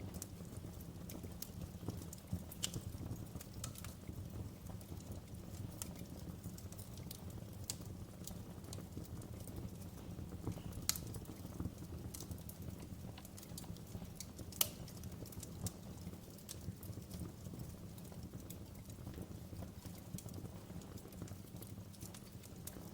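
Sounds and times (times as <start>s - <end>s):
fire crackling in a fireplace: 0.0s - 22.9s
sharp pops from fire: 0.1s - 22.9s.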